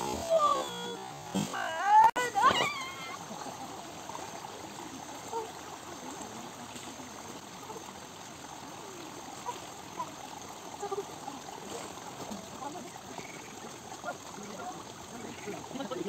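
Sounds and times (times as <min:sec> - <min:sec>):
rushing water-like noise: 0:00.0 - 0:16.0.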